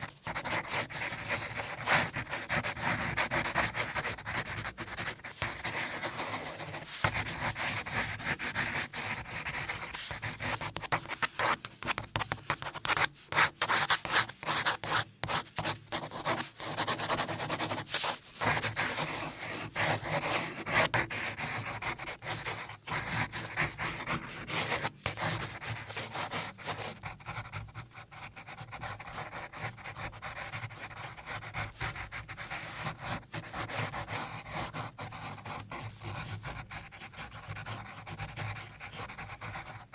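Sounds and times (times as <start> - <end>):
rubbing and scratching noise: 0.0 - 39.9.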